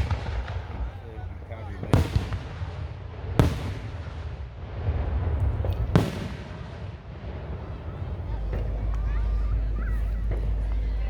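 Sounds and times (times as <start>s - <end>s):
firework booms with low rumble: 0.0s - 11.0s.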